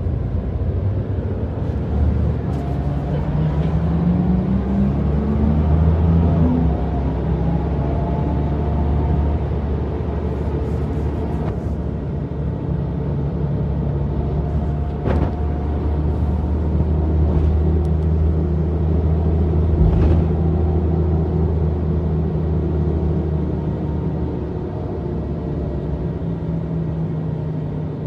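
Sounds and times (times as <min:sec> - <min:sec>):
bus engine idling: 0:00.0 - 0:28.0.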